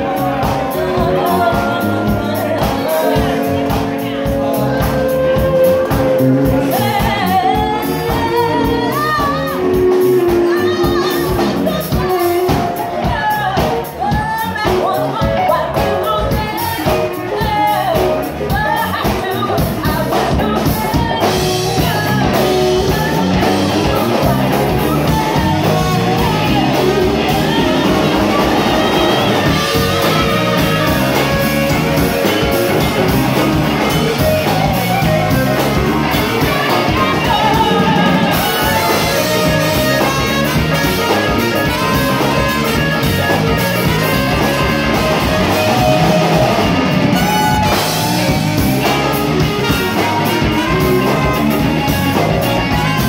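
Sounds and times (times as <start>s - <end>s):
drums: 0.0s - 53.0s
electric guitar: 0.0s - 53.0s
woman singing lead: 0.0s - 53.0s.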